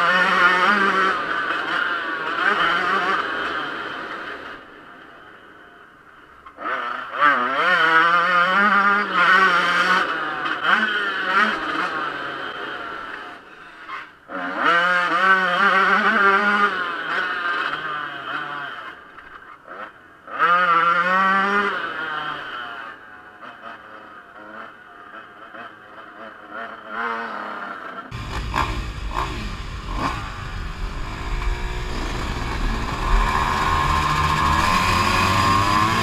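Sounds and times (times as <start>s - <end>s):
two-stroke engine revving hard: 0.0s - 4.1s, 6.6s - 13.4s, 14.3s - 18.9s, 19.6s - 36.0s.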